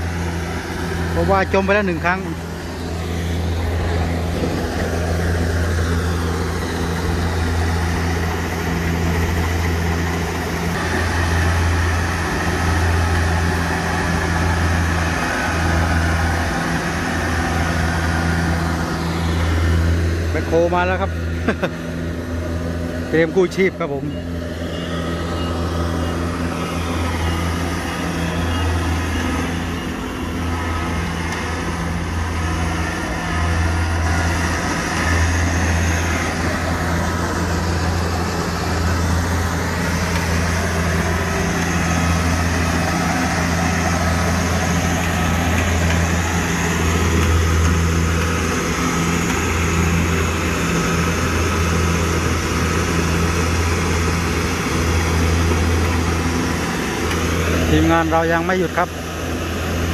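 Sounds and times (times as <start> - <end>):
combine harvester engine running: 0.0 - 59.9.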